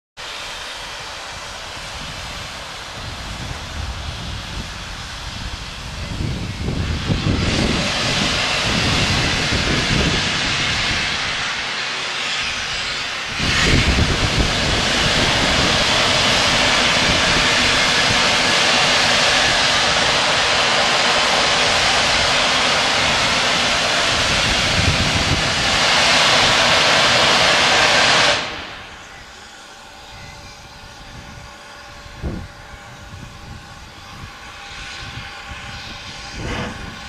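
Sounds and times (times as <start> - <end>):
steam locomotive hissing steam: 0.2 - 37.0.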